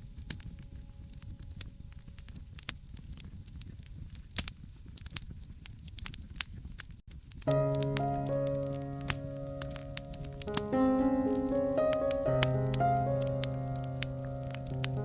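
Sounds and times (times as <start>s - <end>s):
low rumble of flames: 0.0s - 15.0s
fire crackling and popping: 0.1s - 15.0s.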